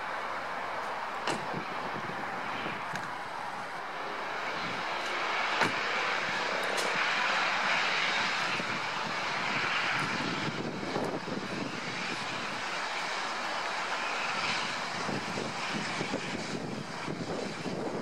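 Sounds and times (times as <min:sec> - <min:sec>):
steam locomotive exhaust roar: 0:00.0 - 0:18.0.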